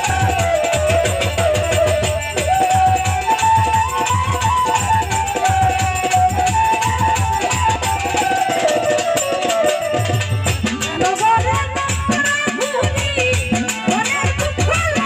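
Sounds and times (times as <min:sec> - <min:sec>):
folk melody line: 0:00.0 - 0:12.1
drums and rattling percussion: 0:00.0 - 0:15.0.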